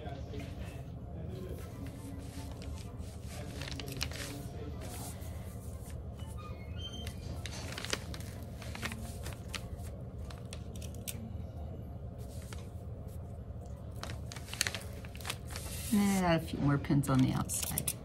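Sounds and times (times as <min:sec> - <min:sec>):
steady low hum: 0:00.0 - 0:18.0
fabric and paper rustling: 0:00.2 - 0:11.3, 0:12.2 - 0:17.9.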